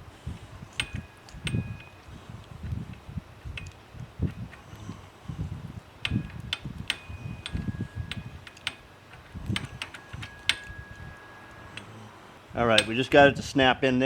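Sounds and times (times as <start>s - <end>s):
small metal parts clicking: 0.2s - 13.3s
metallic ringing taps: 0.4s - 13.4s.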